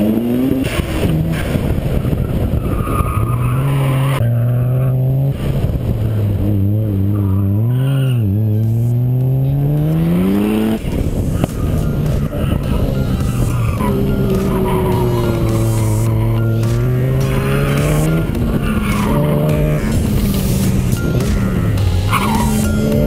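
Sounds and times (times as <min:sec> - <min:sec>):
race car engine accelerating: 0:00.0 - 0:23.0.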